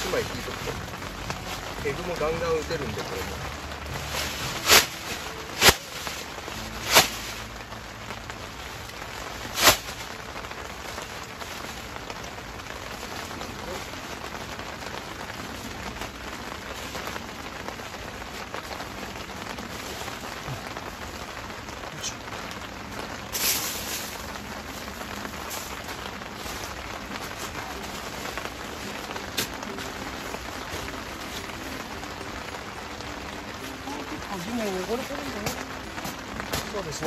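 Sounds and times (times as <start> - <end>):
rain pattering on tent: 0.0 - 37.0.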